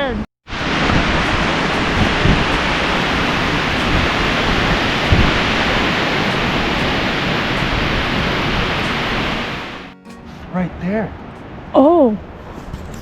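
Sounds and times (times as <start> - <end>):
strong wind rushing through forest: 0.0 - 13.0
wind buffeting microphone: 0.5 - 13.0.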